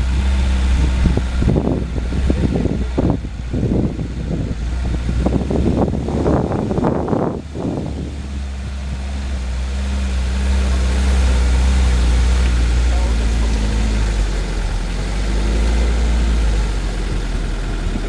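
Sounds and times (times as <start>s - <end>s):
off-road vehicle engine running: 0.0s - 18.0s.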